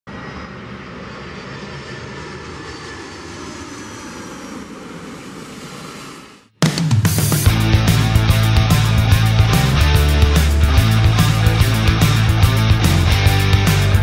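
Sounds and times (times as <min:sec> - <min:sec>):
jet engines passing: 0:00.1 - 0:14.0.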